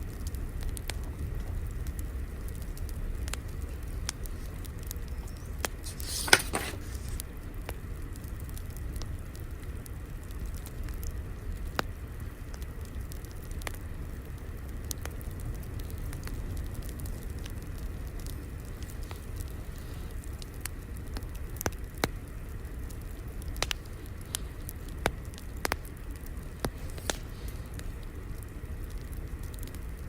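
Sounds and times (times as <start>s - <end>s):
low steady rumble: 0.0s - 5.9s, 6.8s - 30.0s
fire crackling: 0.0s - 30.0s.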